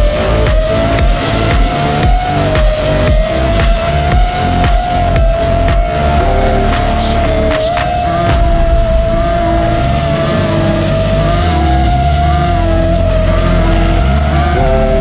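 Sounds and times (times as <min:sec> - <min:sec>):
drone motors whining: 0:00.0 - 0:15.0
electronic music with bass: 0:00.0 - 0:15.0.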